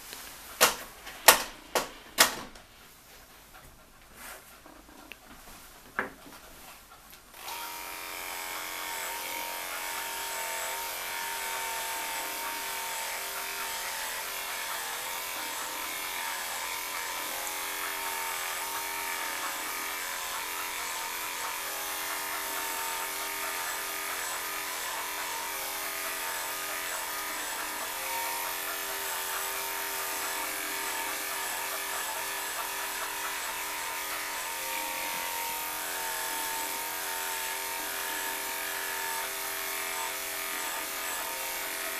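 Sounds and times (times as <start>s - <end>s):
electric clippers buzzing: 7.4s - 41.9s.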